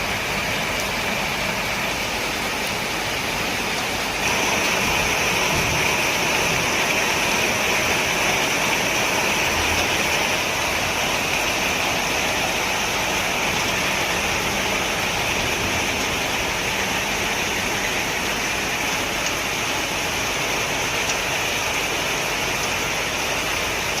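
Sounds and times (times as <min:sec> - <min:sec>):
light drizzle hissing: 0:00.0 - 0:24.0.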